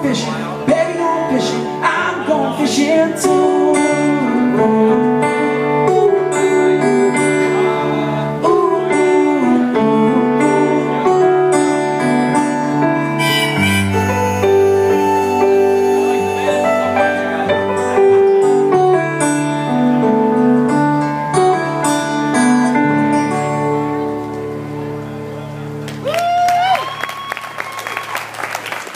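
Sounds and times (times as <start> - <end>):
keyboard: 0.0 - 26.0.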